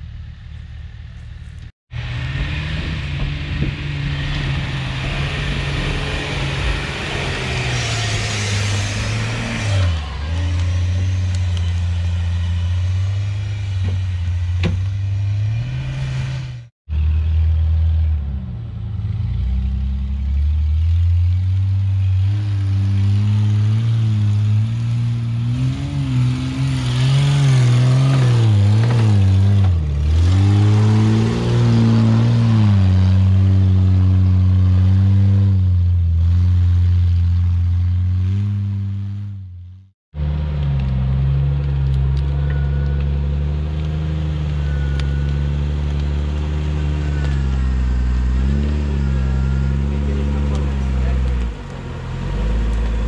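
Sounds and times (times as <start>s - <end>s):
off-road engines revving: 1.6s - 53.0s.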